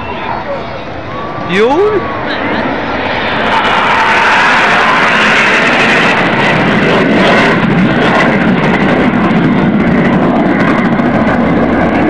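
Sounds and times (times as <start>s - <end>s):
jet aircraft flying overhead: 0.0s - 12.0s.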